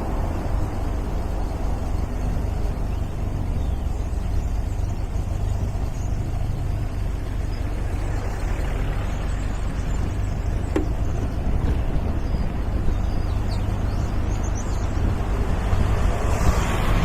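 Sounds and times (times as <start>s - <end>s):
car engine drone: 0.0s - 17.0s
road and wind noise: 0.0s - 17.0s.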